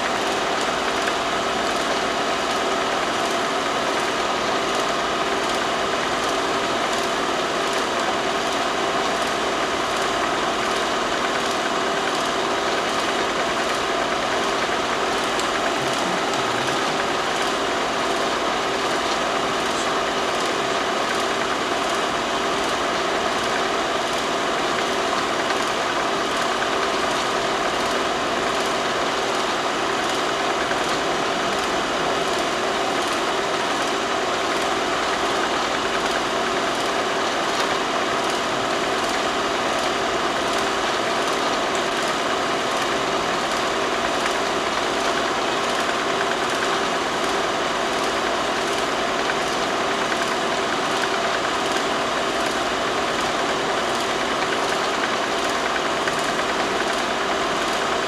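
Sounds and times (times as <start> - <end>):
film projector running: 0.0 - 58.0.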